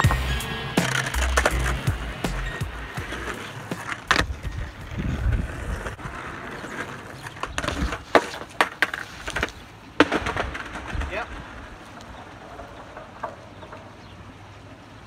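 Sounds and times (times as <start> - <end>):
skateboard clacking on concrete: 0.0 - 14.1
skateboard wheels rolling on concrete: 0.0 - 15.0.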